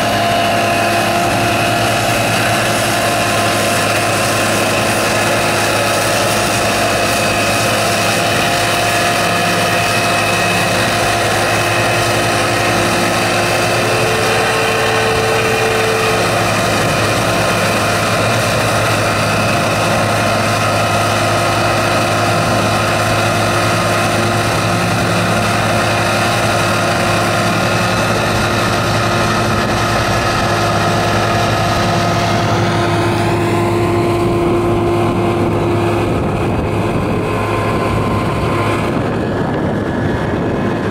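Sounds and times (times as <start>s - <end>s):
slurry churning: 0.0s - 39.9s
boat engine running under load: 0.0s - 40.9s.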